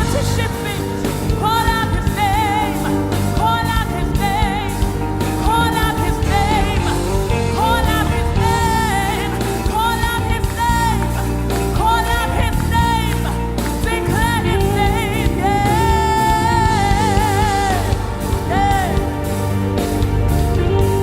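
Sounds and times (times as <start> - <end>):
band playing: 0.0 - 21.0
person singing long held notes: 0.0 - 21.0.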